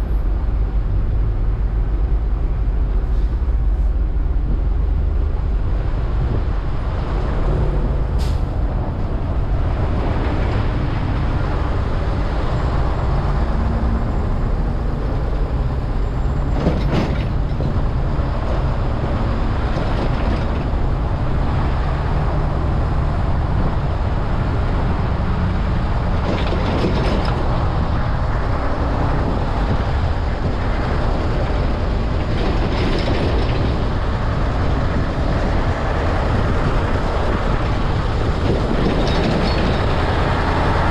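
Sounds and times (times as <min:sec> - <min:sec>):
road traffic and tyre rumble: 0:00.0 - 0:40.9.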